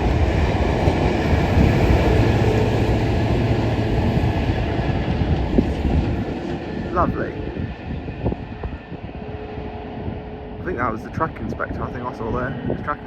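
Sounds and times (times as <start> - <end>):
train rail rumble: 0.0 - 13.0.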